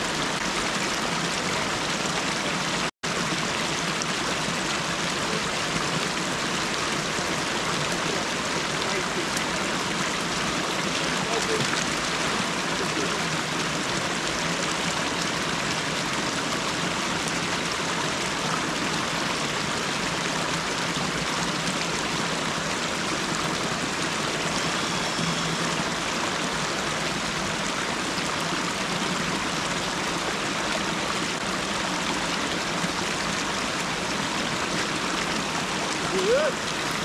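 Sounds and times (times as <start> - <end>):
creek water rushing over drop: 0.0 - 37.0.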